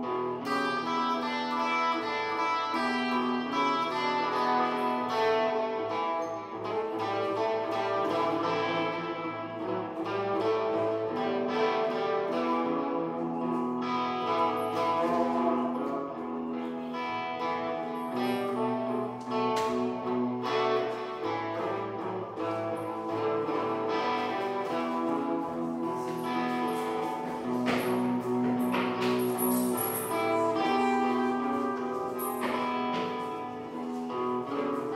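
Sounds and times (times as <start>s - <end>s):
blues guitar playing: 0.0s - 34.9s.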